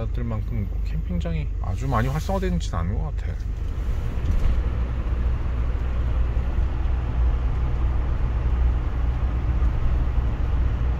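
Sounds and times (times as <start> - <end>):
van driving rumble: 0.0 - 10.9.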